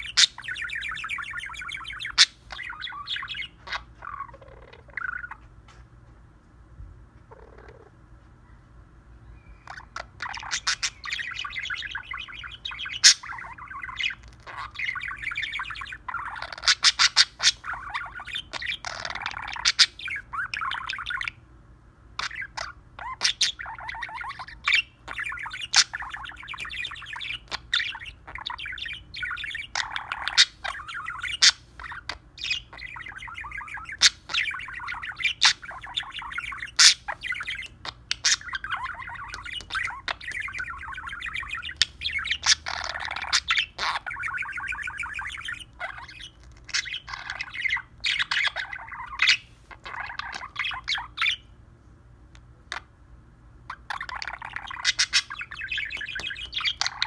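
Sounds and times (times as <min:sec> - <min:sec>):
budgerigar warbling: 0:00.0 - 0:05.4, 0:07.3 - 0:07.9, 0:09.4 - 0:21.4, 0:22.2 - 0:51.5, 0:53.7 - 0:57.0.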